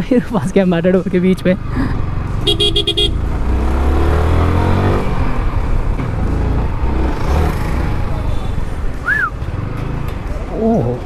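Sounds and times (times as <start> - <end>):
road noise: 0.0 - 11.0
motorcycle engine: 0.8 - 11.0.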